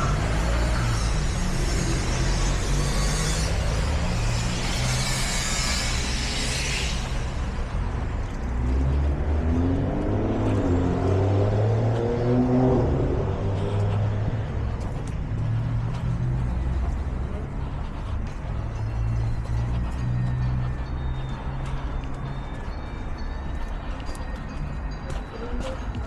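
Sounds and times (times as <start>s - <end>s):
engine pulling away: 0.0s - 24.9s
vehicle engines humming: 0.0s - 26.0s.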